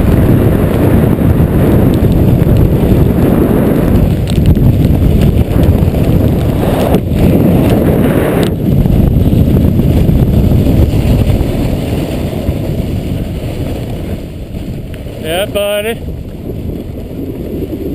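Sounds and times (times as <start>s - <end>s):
snowboard sliding over snow: 0.0s - 17.9s
wind buffeting microphone: 0.0s - 17.9s.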